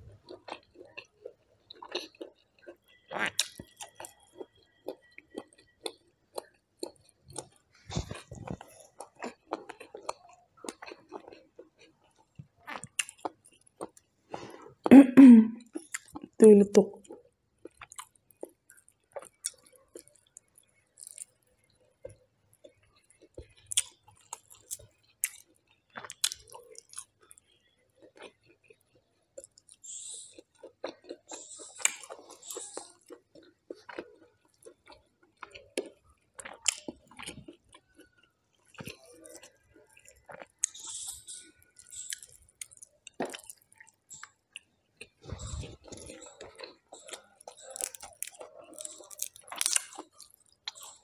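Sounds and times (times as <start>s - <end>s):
fingers squishing food: 0.2s - 14.8s, 17.1s - 51.0s
wet chewing: 0.2s - 14.9s, 17.0s - 51.0s.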